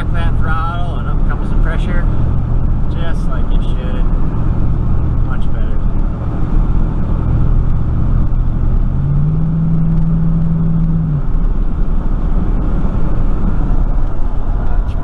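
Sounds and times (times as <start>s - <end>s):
pickup engine from inside cab: 0.0s - 15.0s
road noise: 0.0s - 15.0s.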